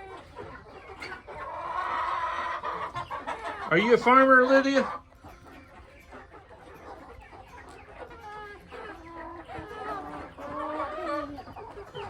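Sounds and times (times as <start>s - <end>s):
wavering chick calls: 0.0s - 12.0s
young chickens clucking: 0.0s - 12.0s.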